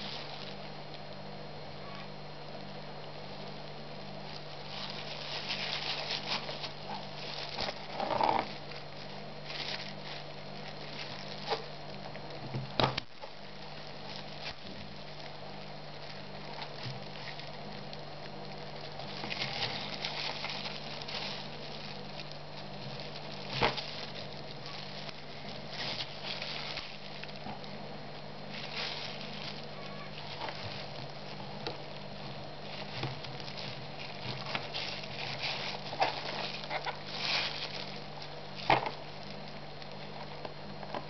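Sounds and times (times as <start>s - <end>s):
plastic gloves crinkling: 0.0s - 1.4s, 2.4s - 41.0s
steady low hum: 0.0s - 41.0s.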